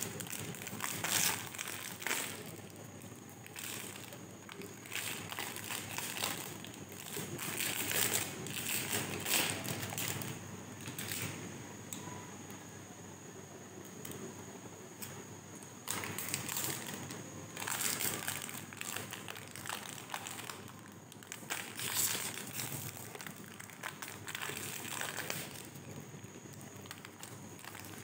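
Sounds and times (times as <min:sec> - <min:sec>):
snack wrapper crinkling: 0:00.0 - 0:11.3, 0:15.8 - 0:28.0.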